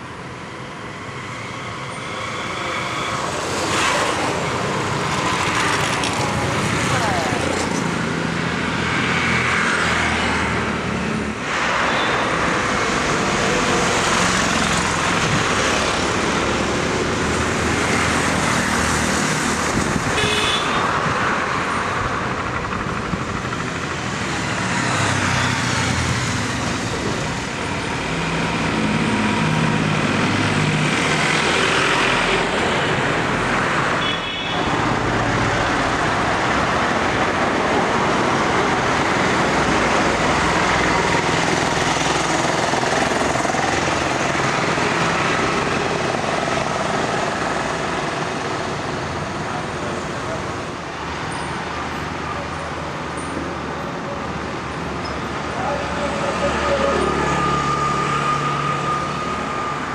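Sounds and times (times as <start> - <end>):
vehicle engines passing close: 0.0 - 20.2, 20.8 - 34.0, 34.6 - 59.9.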